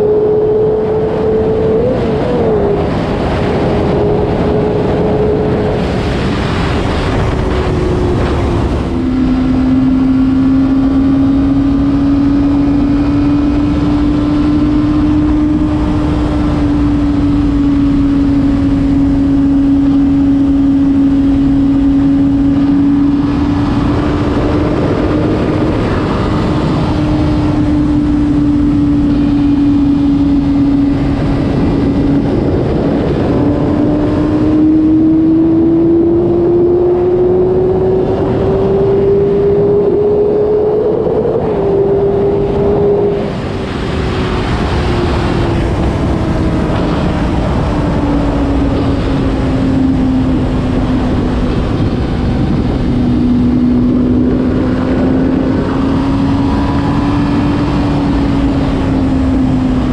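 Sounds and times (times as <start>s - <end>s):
motorcycle engine high revving: 0.0s - 59.9s
wind on microphone: 0.0s - 59.9s.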